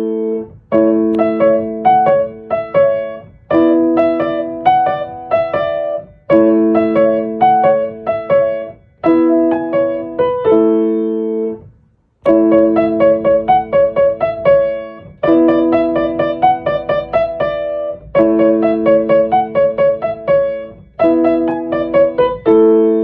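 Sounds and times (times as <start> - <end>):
piano playing bright chords: 0.0 - 23.0.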